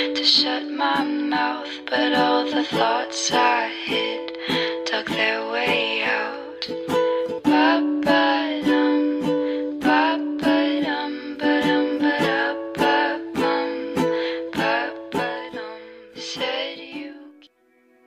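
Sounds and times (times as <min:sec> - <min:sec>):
strummed acoustic strings music: 0:00.0 - 0:18.0.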